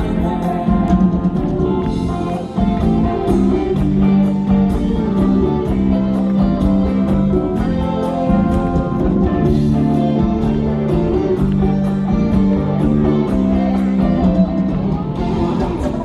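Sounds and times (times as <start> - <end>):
drum kit: 0.0 - 16.0
guitars: 0.0 - 16.0.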